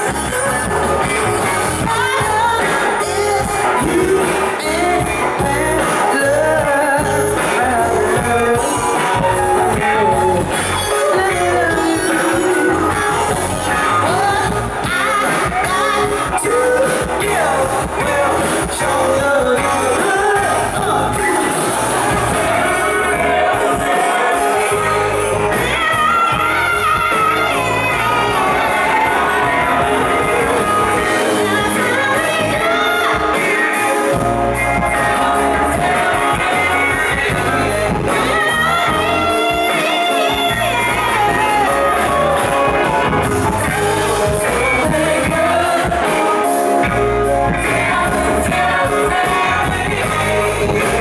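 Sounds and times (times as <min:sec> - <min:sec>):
live band through speakers: 0:00.0 - 0:51.0
woman singing: 0:01.8 - 0:21.4, 0:22.9 - 0:34.2, 0:34.8 - 0:42.6, 0:43.6 - 0:51.0.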